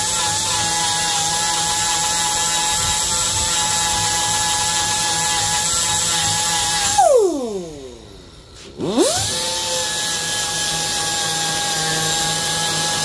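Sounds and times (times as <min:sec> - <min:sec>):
angle grinder whining: 0:00.0 - 0:13.0
grinder spinning down: 0:00.0 - 0:13.0.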